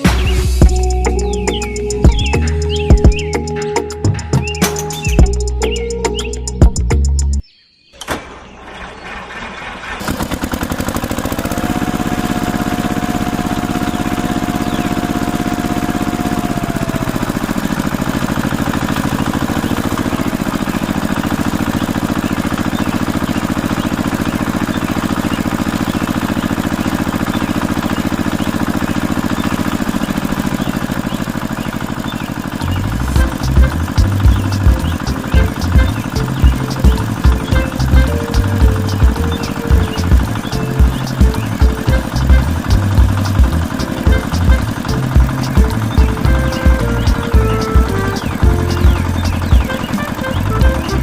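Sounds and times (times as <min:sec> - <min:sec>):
small tractor engine pulsing: 0:00.0 - 0:07.4, 0:08.0 - 0:51.0.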